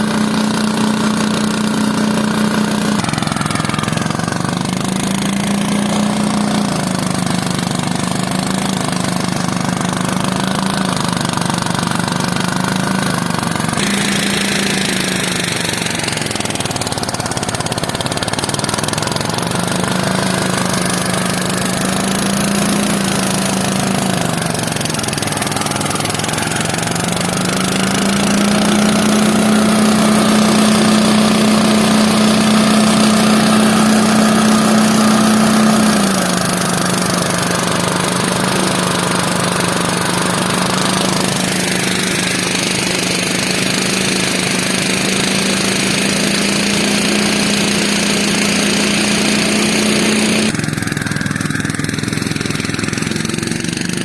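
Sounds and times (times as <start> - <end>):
thresher engine running: 0.0 - 54.0.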